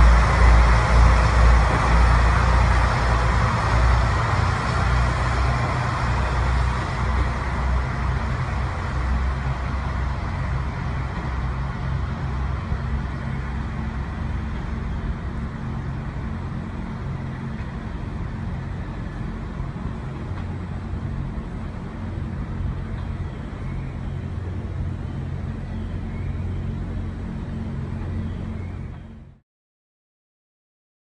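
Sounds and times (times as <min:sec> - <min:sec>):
diesel engine drone: 0:00.0 - 0:29.4.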